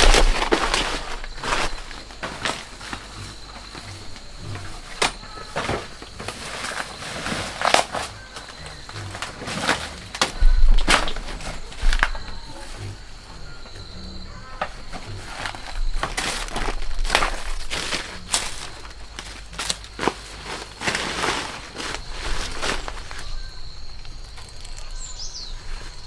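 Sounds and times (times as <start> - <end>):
snaps crunches and rustles: 0.0 - 4.2, 4.9 - 12.2, 15.3 - 25.2.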